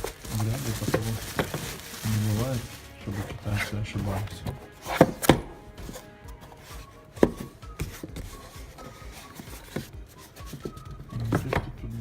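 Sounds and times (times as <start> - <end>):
packaging clicks and rustles: 0.0 - 12.0.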